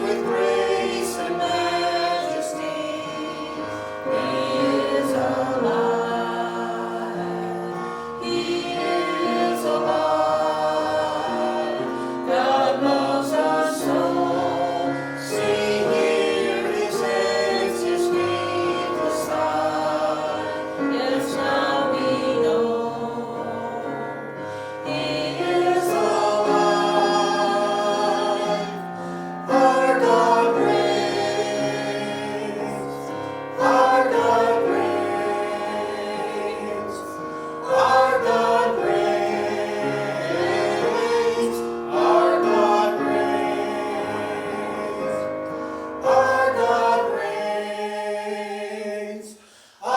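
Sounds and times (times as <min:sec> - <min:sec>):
group singing a worship song: 0:00.0 - 0:49.9.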